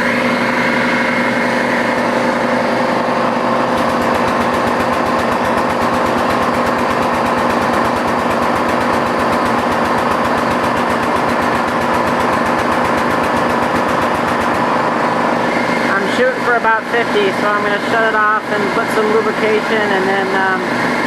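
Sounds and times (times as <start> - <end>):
tube bender motor humming: 0.0 - 21.0.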